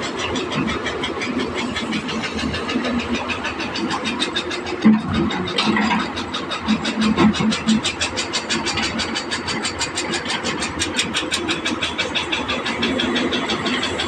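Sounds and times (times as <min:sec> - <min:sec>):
heavy diesel engine clattering: 0:00.0 - 0:14.0.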